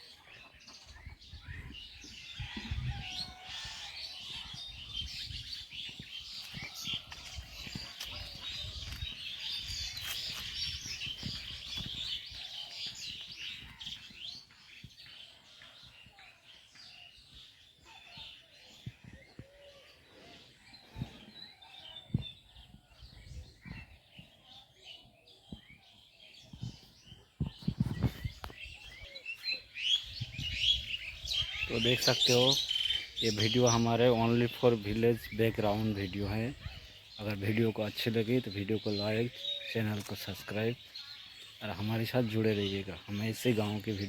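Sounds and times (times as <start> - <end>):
small birds chirping chorus: 0.0 - 44.0.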